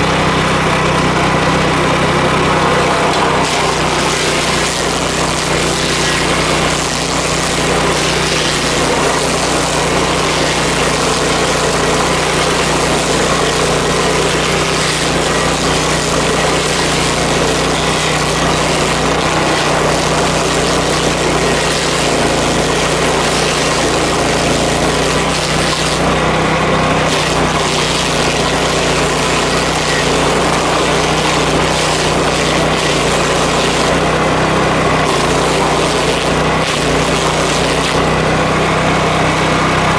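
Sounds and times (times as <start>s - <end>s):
engine droning: 0.0s - 39.9s
stump grinder cutter grinding: 0.0s - 39.9s.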